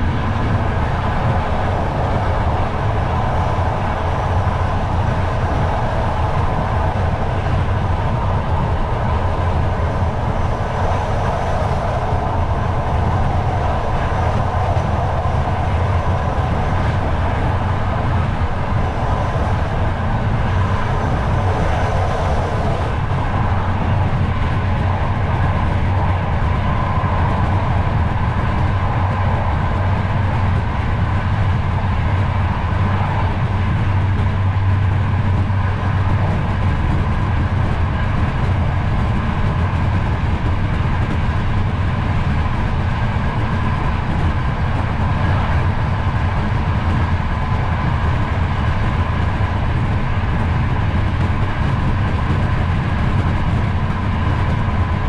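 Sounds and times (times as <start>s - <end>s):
low hum of train: 0.0s - 55.0s
train wheels on rails: 0.0s - 55.0s.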